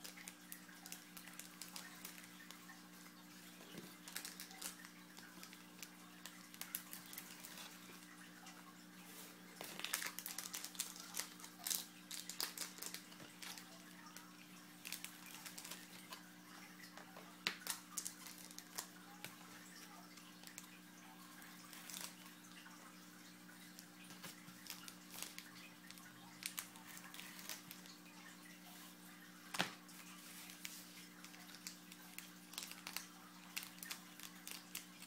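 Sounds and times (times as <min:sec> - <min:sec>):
card packs crinkling and rustling: 0:00.0 - 0:08.2, 0:09.1 - 0:16.3, 0:16.9 - 0:22.6, 0:23.6 - 0:35.0.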